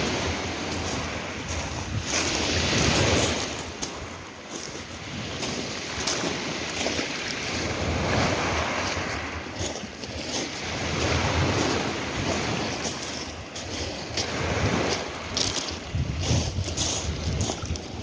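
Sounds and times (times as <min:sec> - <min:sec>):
sea waves washing on shore: 0:00.0 - 0:18.0
wind buffeting microphone: 0:00.0 - 0:18.0.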